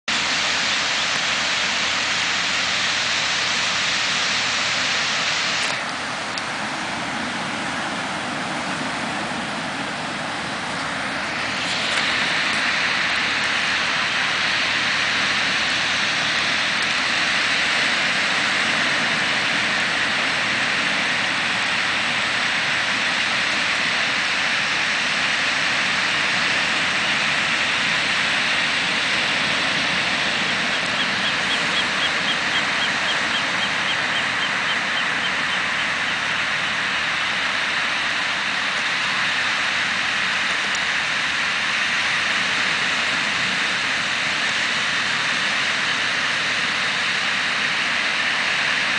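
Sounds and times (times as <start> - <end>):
ocean surf breaking: 0.1 - 48.9.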